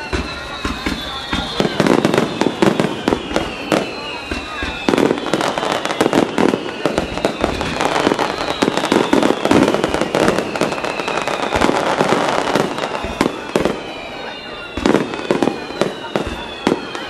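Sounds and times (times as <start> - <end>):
fireworks bangs and crackles: 0.0 - 17.0
fireworks whistling: 0.0 - 17.0.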